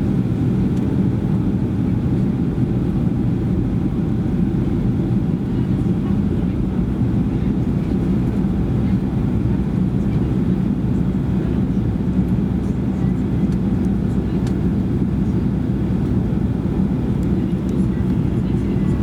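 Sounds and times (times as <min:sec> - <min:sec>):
airflow over fuselage: 0:00.0 - 0:19.0.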